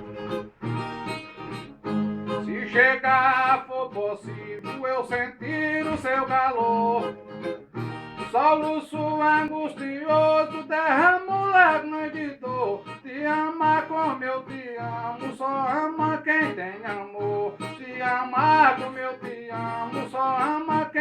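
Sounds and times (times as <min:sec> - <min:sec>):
viola plucked and strummed: 0:00.0 - 0:21.0
man singing: 0:02.2 - 0:07.6, 0:08.2 - 0:21.0.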